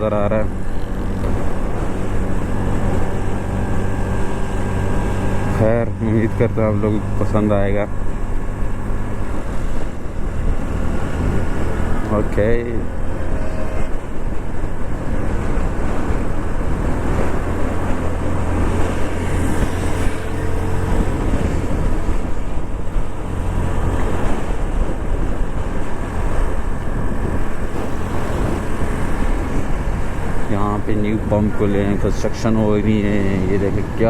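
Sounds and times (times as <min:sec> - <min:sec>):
wind and road noise: 0:00.0 - 0:34.0
motorcycle engine running: 0:00.2 - 0:33.4.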